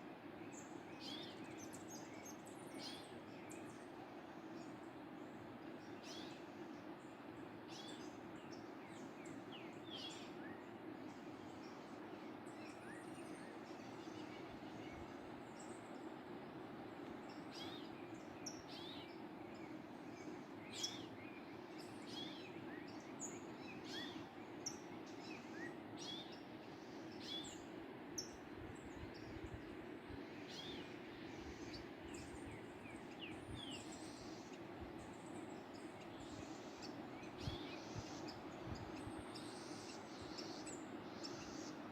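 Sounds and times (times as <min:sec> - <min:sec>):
small birds chirping: 0:00.4 - 0:16.2, 0:16.9 - 0:41.9.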